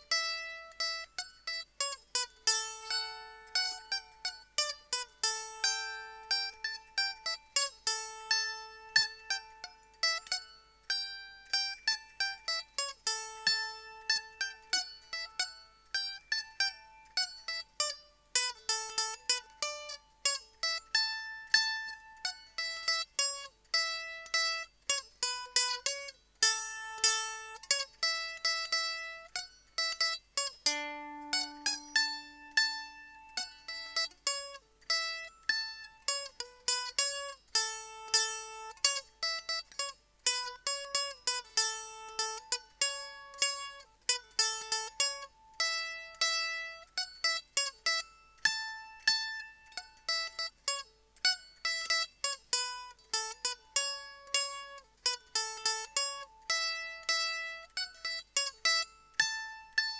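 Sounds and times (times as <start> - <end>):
mandolin playing a reel: 0.0 - 59.9.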